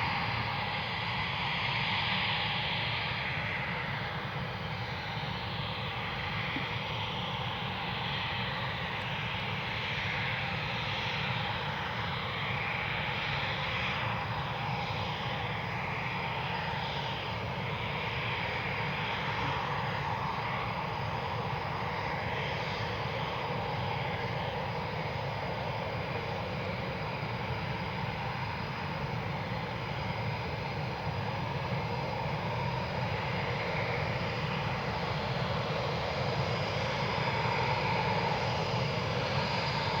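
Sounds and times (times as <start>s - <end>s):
jet engines rushing and whining: 0.0s - 40.0s.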